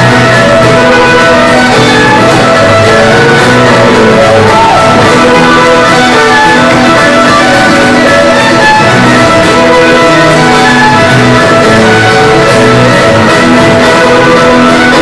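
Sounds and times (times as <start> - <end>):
fiddle playing: 0.0 - 15.0
strummed guitar: 0.0 - 15.0.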